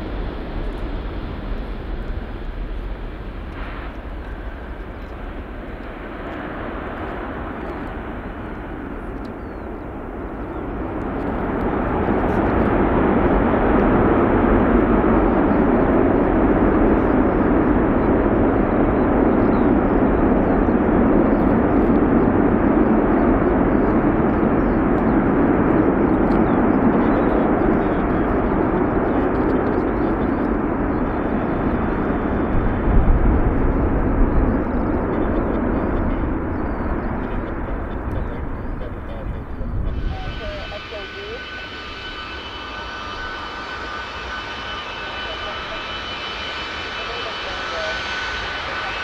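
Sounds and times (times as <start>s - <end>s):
jet engines roaring: 0.0s - 49.0s.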